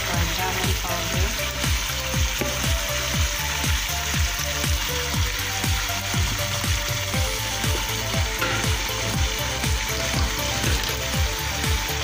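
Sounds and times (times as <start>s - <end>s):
chicken and tomatoes sizzling: 0.0s - 12.0s
fast steady beat music: 0.0s - 12.0s.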